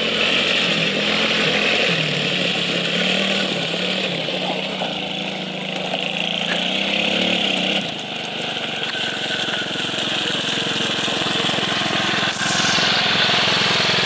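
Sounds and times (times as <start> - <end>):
quad bike engine puttering: 0.0 - 14.0.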